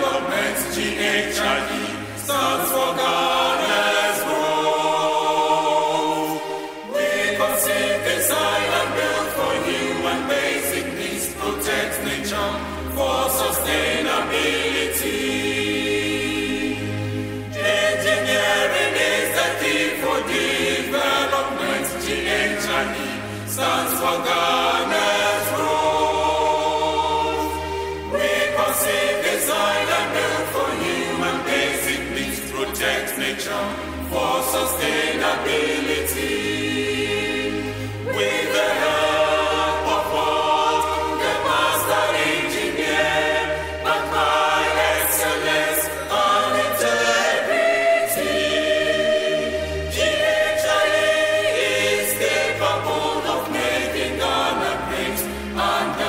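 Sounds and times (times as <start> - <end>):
choir singing hymn-like anthem: 0.0 - 56.0.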